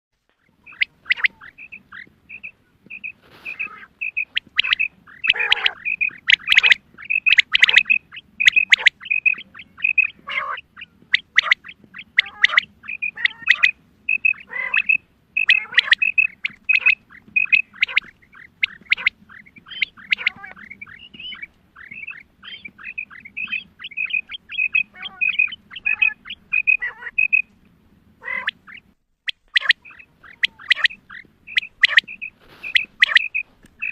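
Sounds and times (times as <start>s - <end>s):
faint steady hum: 0.2s - 33.9s
quail chirping and calling: 0.3s - 27.6s, 28.2s - 33.9s.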